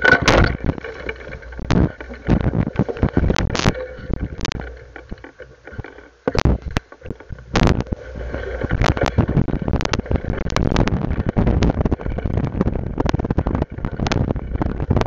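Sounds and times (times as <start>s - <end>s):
bicycle knocking and rattling: 0.0s - 15.0s
wind rumble on microphone: 0.0s - 15.0s.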